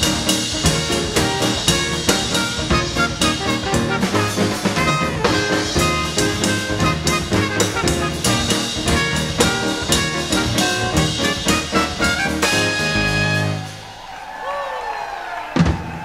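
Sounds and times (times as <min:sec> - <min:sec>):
trumpets and trombones: 0:00.0 - 0:14.1
drum kit and percussion beat: 0:00.0 - 0:14.3.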